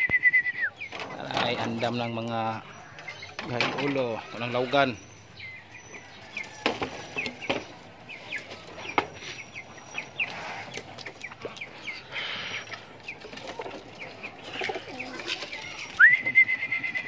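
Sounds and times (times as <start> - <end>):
pigeons chirping: 0.0 - 17.0.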